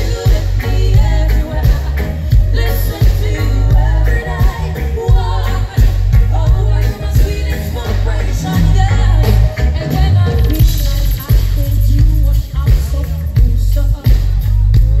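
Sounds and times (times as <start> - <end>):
live reggae band: 0.0 - 15.0
woman singing: 0.0 - 15.0.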